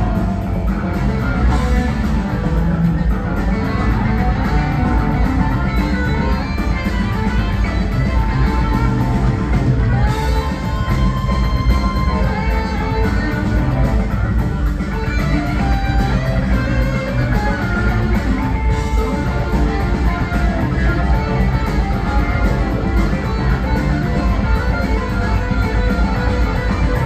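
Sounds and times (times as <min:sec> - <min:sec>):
electric guitar: 0:00.0 - 0:27.0
live rock band playing: 0:00.0 - 0:27.0.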